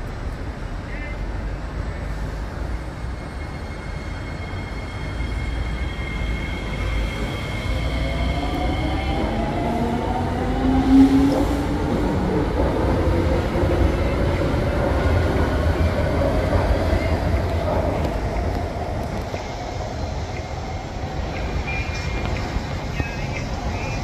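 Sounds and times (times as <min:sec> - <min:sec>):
metro train passing on track: 0:00.0 - 0:24.0.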